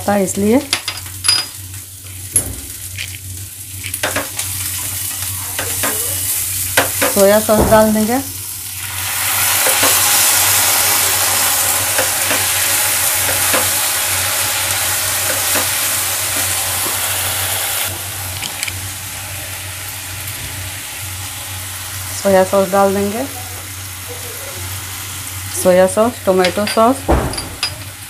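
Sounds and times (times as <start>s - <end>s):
vegetables sizzling in oil: 0.0s - 27.1s.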